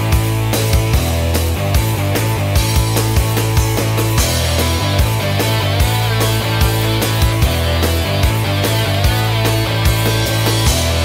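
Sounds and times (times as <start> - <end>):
background music with bass: 0.0 - 11.0.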